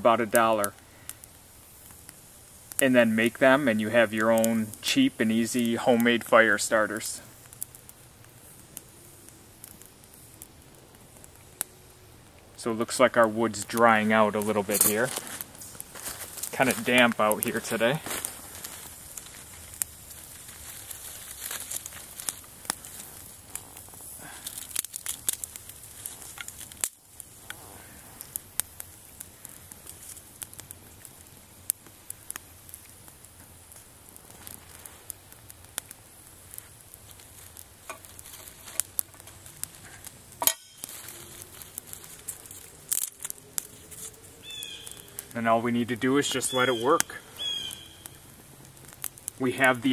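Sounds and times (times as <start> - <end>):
twig fire crackling and popping: 0.0 - 49.9
twigs rustling: 1.7 - 49.9.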